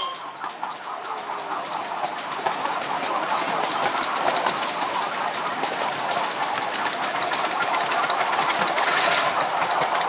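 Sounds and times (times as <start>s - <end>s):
miniature train wheels clattering: 0.0s - 10.0s.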